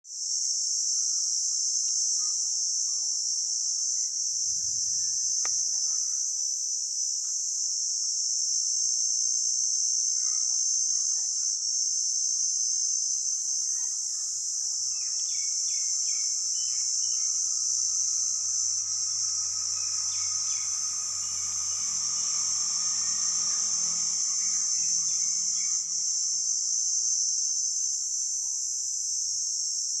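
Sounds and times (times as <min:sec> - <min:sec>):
crickets chirping: 0:00.1 - 0:30.0.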